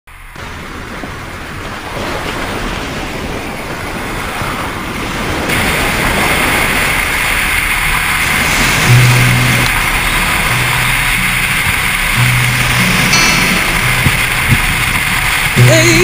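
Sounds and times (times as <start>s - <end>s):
wind and road noise: 0.1s - 16.0s.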